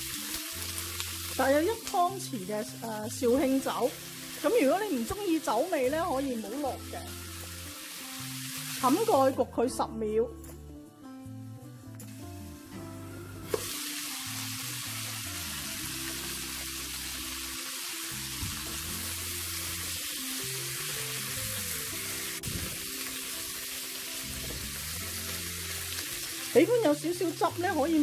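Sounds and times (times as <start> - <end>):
food sizzling in a wok: 0.0 - 9.4, 11.9 - 28.0
background music: 0.0 - 28.0.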